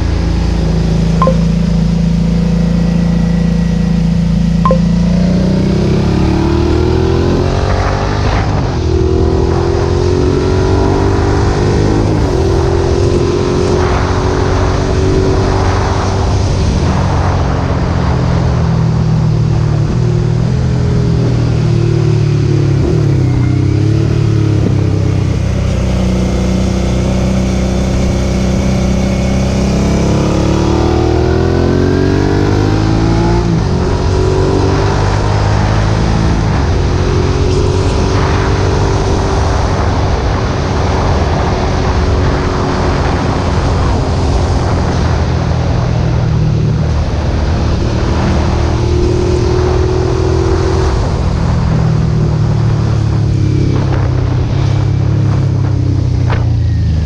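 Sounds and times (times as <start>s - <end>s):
motorcycle engine revving: 0.0s - 18.4s, 19.3s - 57.0s.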